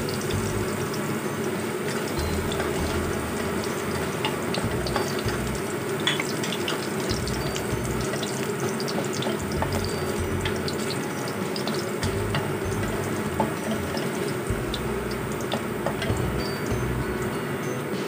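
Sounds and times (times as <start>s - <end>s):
spatula stirring: 0.0s - 16.9s
hot oil sizzling in a wok: 0.0s - 18.0s.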